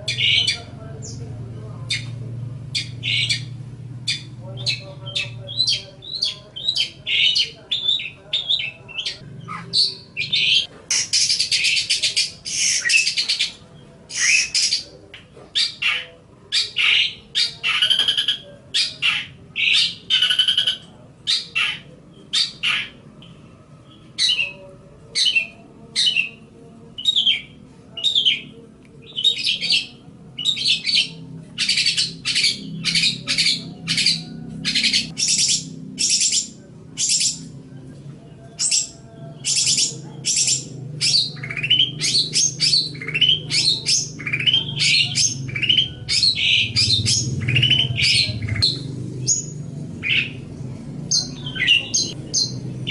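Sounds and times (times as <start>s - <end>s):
bird singing harsh buzzy chatter: 0.0s - 52.9s.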